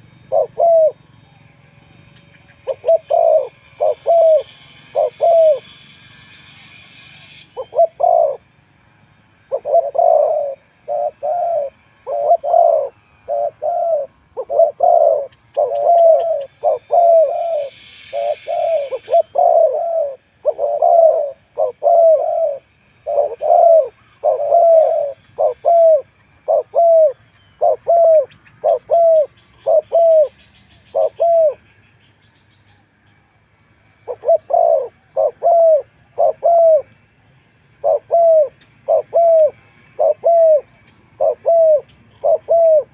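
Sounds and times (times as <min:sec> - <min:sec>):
dove cooing: 0:00.0 - 0:05.8, 0:07.2 - 0:08.5, 0:09.4 - 0:31.8, 0:33.9 - 0:37.1, 0:37.7 - 0:42.9
small birds chirping: 0:00.0 - 0:08.9, 0:09.5 - 0:42.9.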